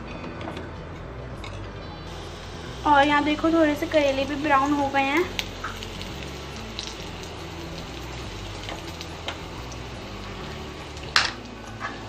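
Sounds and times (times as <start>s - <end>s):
food sizzling in oil: 1.8s - 12.0s.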